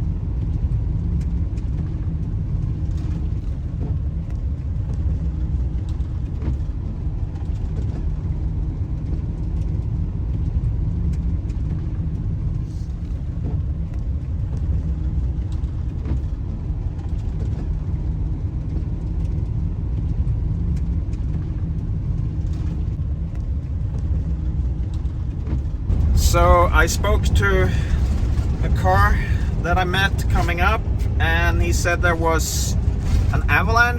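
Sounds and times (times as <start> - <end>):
van engine and tyres rumbling: 0.0 - 33.9.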